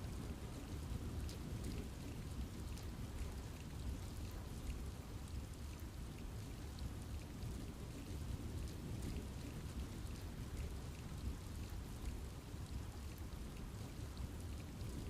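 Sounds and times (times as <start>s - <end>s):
rain pattering on leaves: 0.0s - 15.0s.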